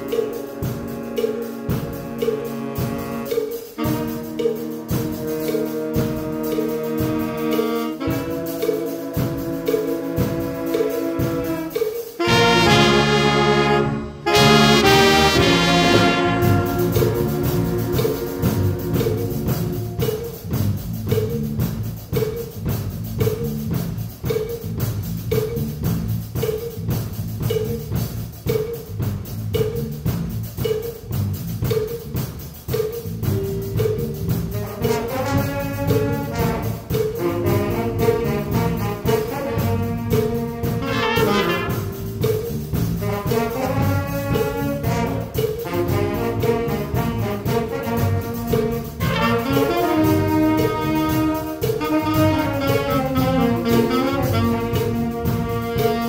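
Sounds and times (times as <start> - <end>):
brass band music: 0.0 - 56.0.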